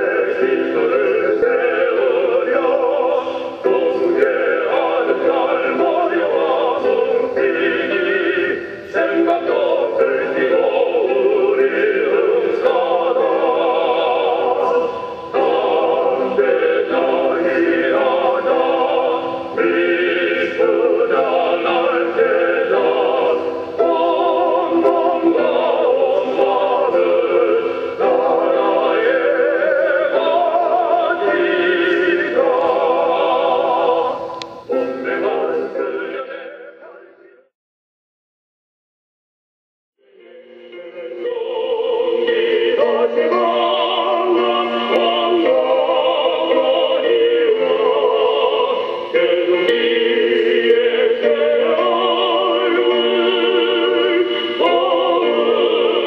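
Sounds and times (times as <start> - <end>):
sustained accompaniment: 0.0 - 37.0, 40.0 - 56.0
person singing with vibrato: 0.0 - 37.5, 40.0 - 56.0.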